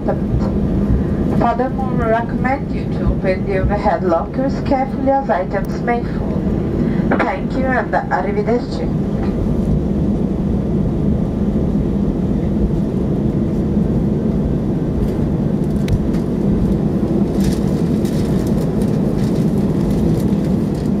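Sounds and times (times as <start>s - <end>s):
aircraft cabin engine rumble: 0.0s - 21.0s.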